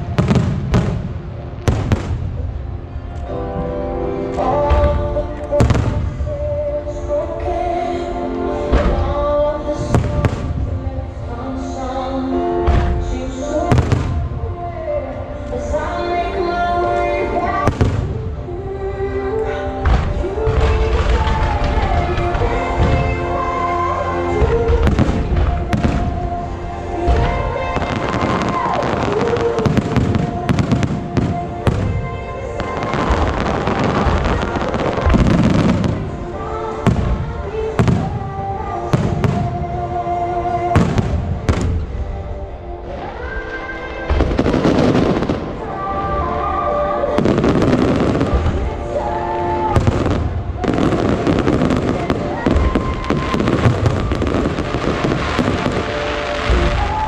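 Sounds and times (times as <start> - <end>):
fireworks booming and crackling: 0.0 - 3.7, 4.3 - 7.1, 8.5 - 11.7, 12.3 - 14.6, 16.9 - 18.8, 19.7 - 43.2, 44.1 - 46.2, 47.0 - 57.0
music playing: 0.0 - 57.0.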